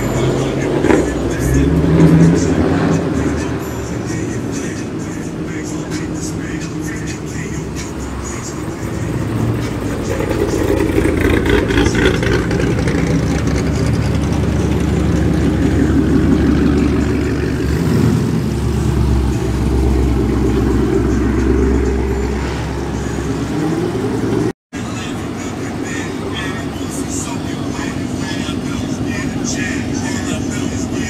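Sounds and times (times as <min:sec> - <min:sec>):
cars driving past with loud exhausts: 0:00.0 - 0:31.0.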